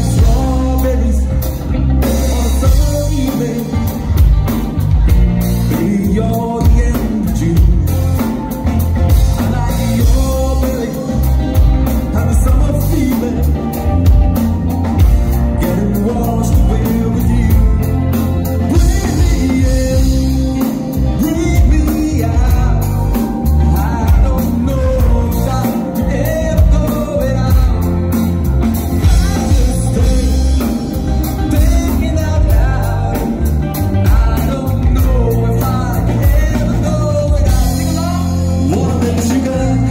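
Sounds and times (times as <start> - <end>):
live pop band playing: 0.0 - 39.9
male lead vocal: 0.0 - 39.9
steady drum beat: 0.0 - 39.9.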